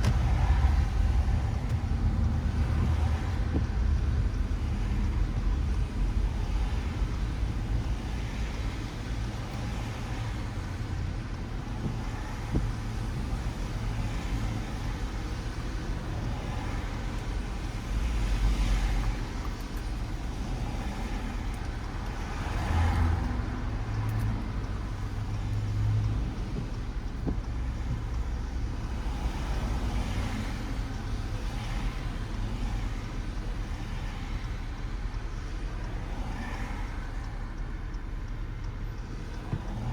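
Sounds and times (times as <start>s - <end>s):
tyres hissing on wet asphalt: 0.0s - 38.2s
engine and tyre rumble: 0.0s - 39.9s.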